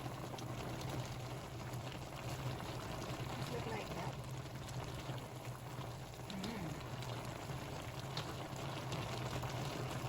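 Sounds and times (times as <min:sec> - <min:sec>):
soup bubbling in a pot: 0:00.0 - 0:10.0.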